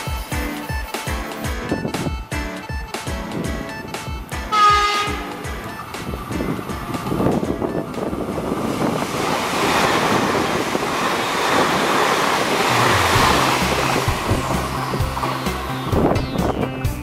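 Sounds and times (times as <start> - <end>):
train rushing past: 3.0 - 16.8.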